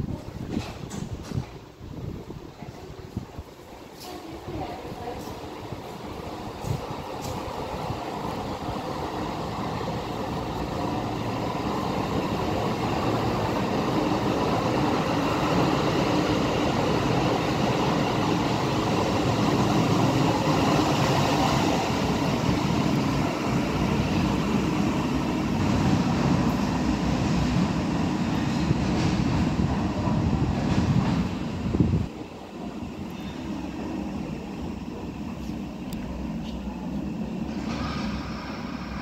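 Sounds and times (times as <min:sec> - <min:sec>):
light-rail car rumbling in tunnel: 0:00.0 - 0:39.0.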